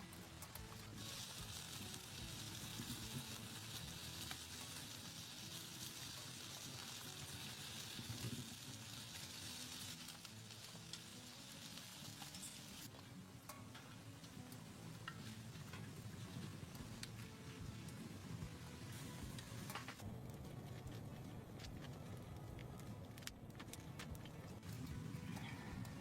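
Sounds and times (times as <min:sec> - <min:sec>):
faint sizzling hiss: 0:00.0 - 0:26.0.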